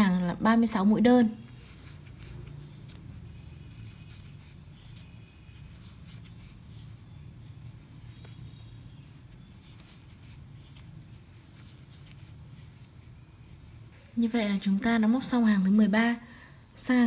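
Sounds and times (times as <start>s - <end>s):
crochet hook scratching yarn: 0.7s - 15.3s.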